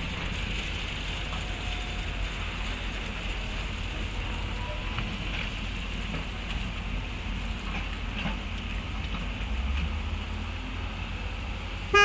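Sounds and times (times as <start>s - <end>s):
low diesel engine rumble: 0.0s - 12.0s.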